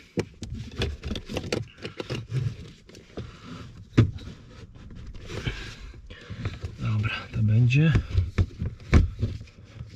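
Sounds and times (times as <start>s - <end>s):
hands fitting rubber hoses: 0.0s - 9.9s.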